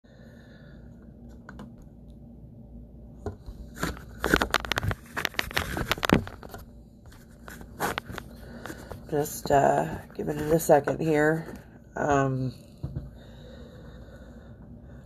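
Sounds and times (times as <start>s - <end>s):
low steady hum: 0.1s - 15.0s.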